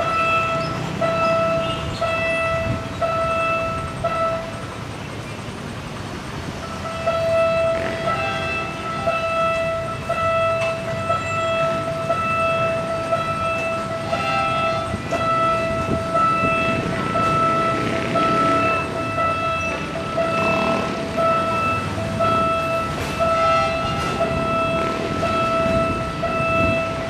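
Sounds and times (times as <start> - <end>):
city noise: 0.0 - 27.0
railway warning signal tone: 0.0 - 27.0.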